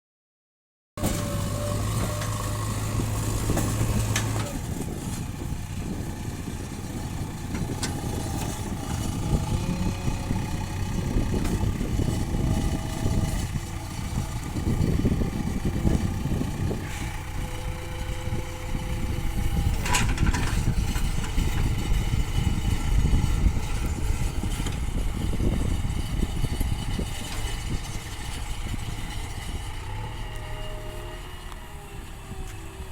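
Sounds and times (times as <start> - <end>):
diesel engine running: 1.0 - 32.9.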